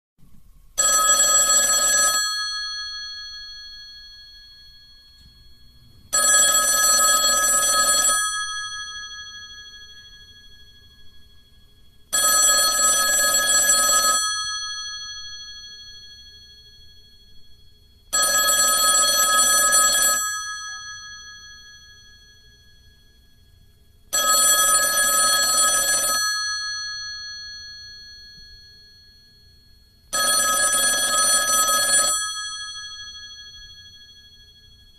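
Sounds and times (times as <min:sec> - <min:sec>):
telephone bell ringing: 0:00.8 - 0:34.9.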